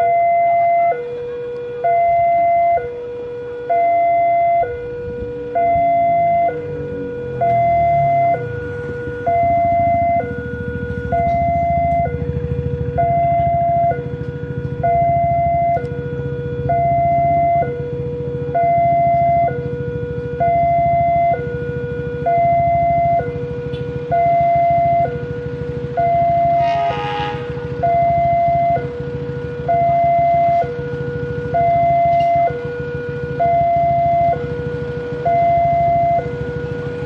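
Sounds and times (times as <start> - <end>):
two-tone level crossing alarm: 0.0 - 37.0
low rumble: 3.6 - 37.0.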